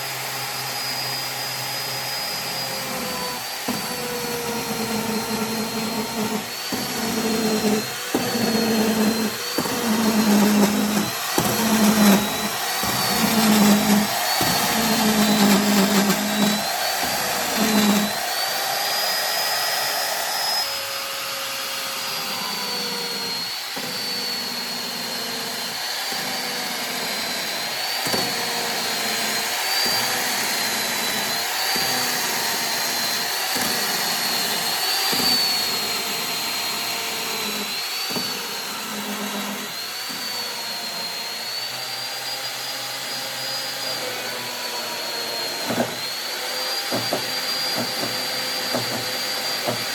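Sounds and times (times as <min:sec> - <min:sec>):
electric motor whining: 0:00.1 - 0:49.9.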